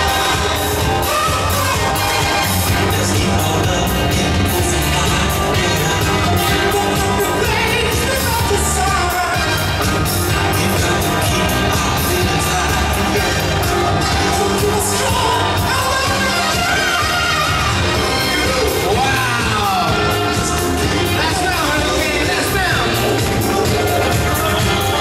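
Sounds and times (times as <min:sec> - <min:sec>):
loud music with steady beat: 0:00.0 - 0:25.0
person singing: 0:00.0 - 0:25.0.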